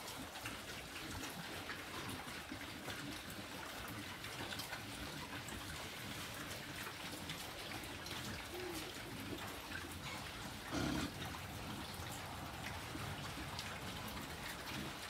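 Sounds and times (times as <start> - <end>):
pigs chewing and rooting: 0.0 - 15.0.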